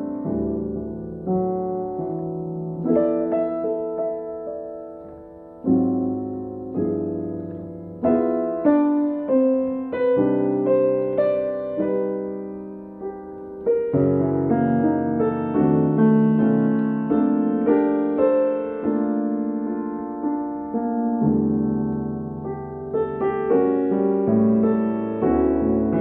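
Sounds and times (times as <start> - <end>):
solo piano: 0.0 - 26.0.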